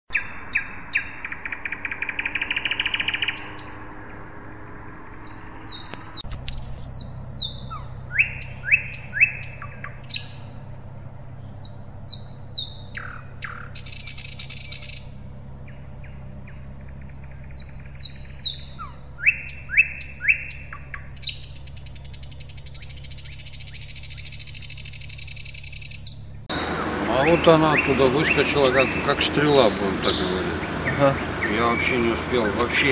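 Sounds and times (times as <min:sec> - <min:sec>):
bird chirping: 0:00.1 - 0:03.9, 0:04.5 - 0:32.9
steady low hum: 0:06.2 - 0:32.9.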